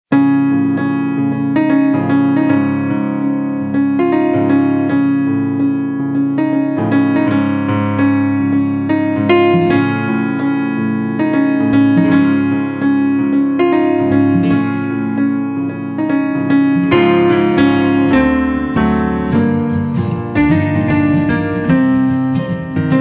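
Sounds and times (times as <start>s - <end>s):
electric piano tune: 0.1s - 23.0s.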